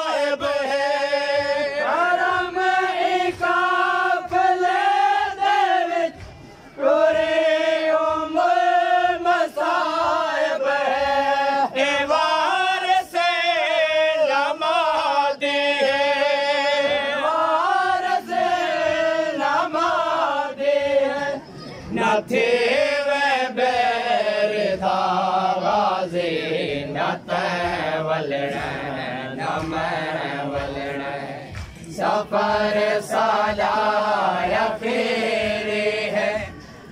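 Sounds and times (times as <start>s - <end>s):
men chanting a lament: 0.0s - 36.9s.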